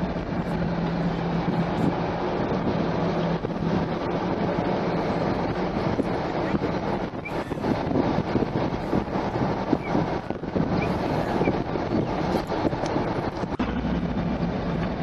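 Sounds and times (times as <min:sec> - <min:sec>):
car road and engine noise: 0:00.0 - 0:15.0
low hum: 0:00.0 - 0:15.0.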